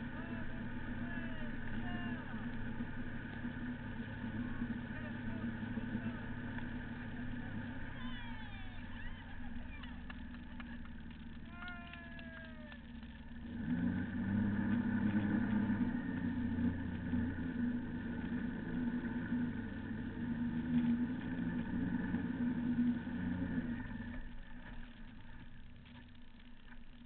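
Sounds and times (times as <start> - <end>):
motorboat engine running: 0.0 - 27.0
water rushing: 0.0 - 27.0.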